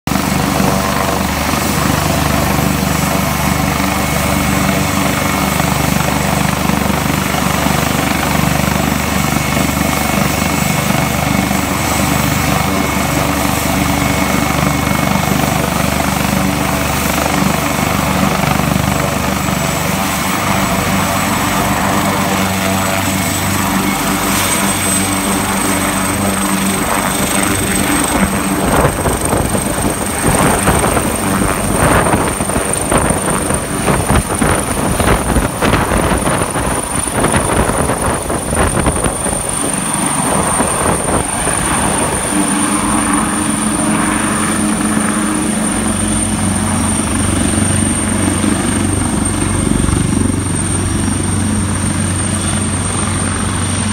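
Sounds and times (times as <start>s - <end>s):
helicopter running: 0.1s - 53.9s.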